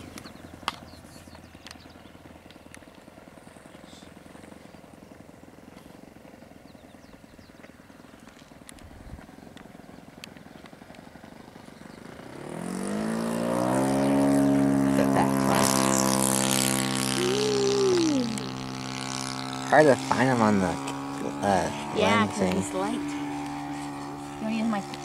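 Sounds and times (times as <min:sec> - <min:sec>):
model airplane propeller drone: 0:00.0 - 0:25.0.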